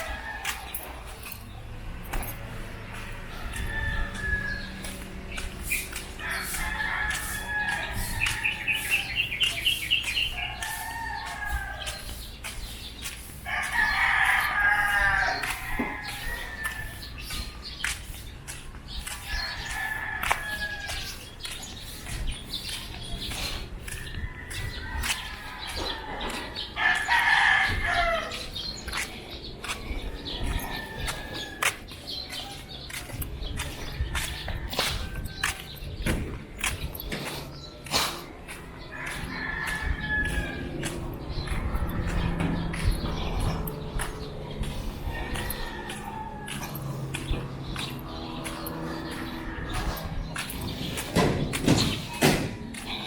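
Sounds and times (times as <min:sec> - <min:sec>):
roosters crowing: 0:00.0 - 0:53.0.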